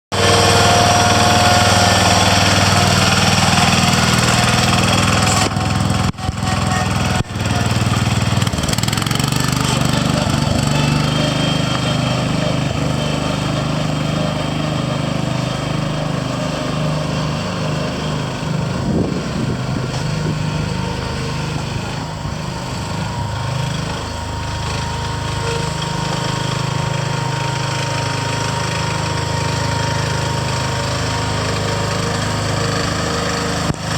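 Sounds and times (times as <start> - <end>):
garden tractor engine running: 0.1 - 33.9.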